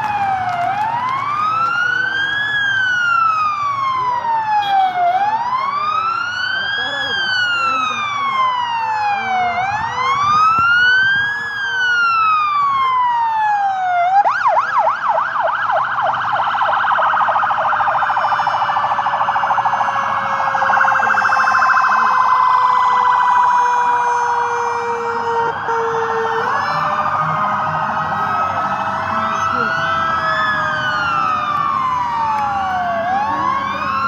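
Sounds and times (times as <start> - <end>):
sirens wailing: 0.0 - 34.0.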